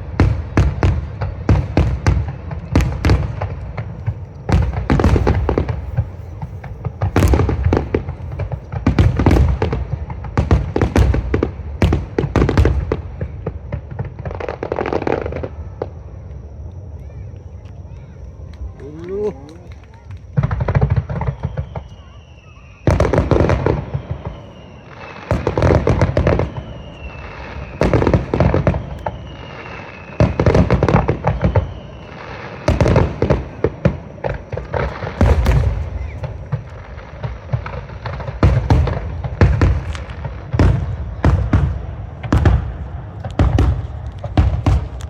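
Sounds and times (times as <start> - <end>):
falling firework whistles: 0.0 - 45.0
fireworks bursting with booms: 0.0 - 45.0
fireworks crackling: 0.0 - 45.0.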